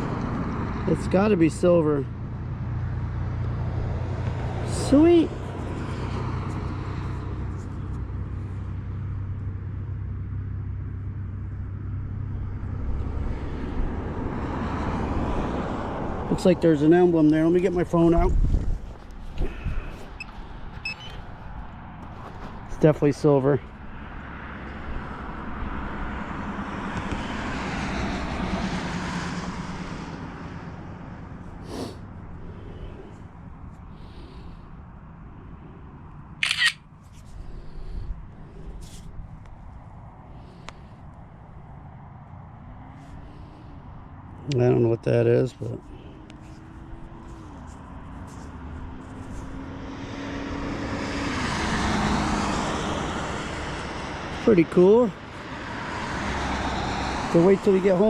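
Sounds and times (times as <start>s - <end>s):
passing engine: 0.0s - 58.0s.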